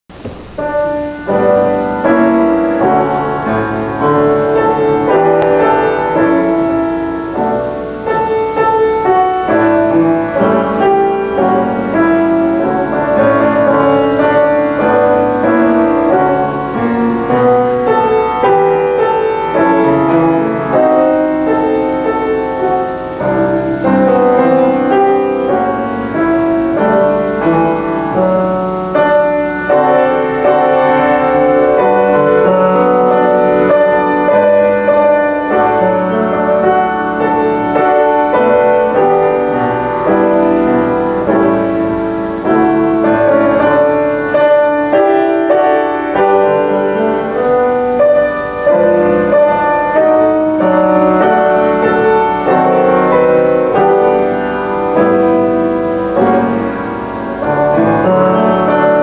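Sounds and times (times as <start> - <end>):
solo piano music: 0.1 - 59.0.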